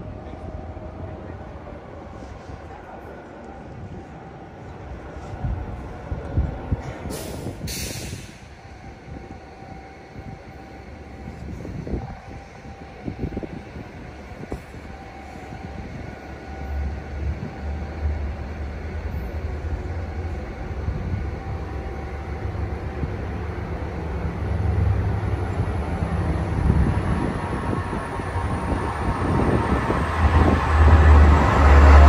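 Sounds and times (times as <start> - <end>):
diesel locomotive approaching: 0.0 - 32.0.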